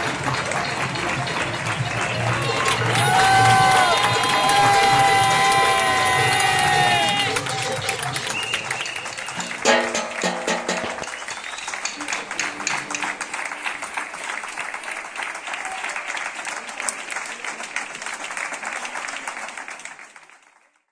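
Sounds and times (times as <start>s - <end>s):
crowd applause: 0.0s - 20.9s.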